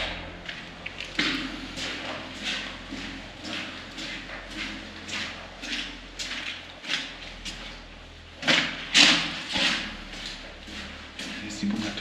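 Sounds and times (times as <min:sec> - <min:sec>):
footsteps on concrete: 0:00.0 - 0:12.0.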